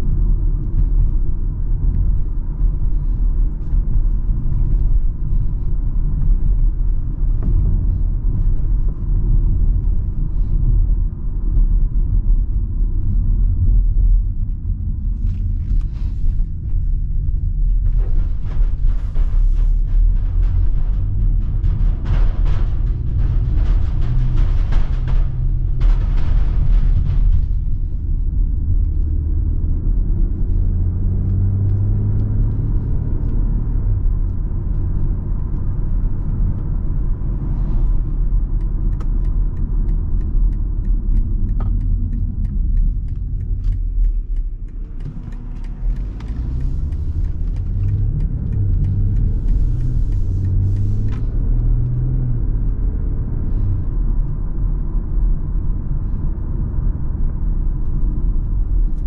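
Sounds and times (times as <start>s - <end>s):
car engine and exhaust accelerating: 0.0s - 59.0s.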